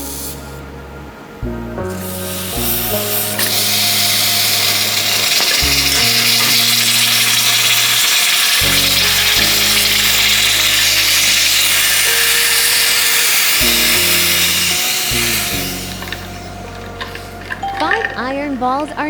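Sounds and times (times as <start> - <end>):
background music with low notes: 0.0 - 19.0
hot metal hissing on ice: 1.9 - 17.6.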